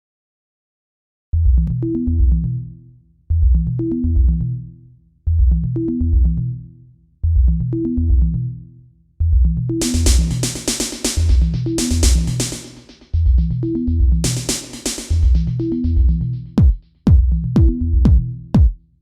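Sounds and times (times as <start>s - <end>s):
electronic music with bass: 1.4s - 18.8s.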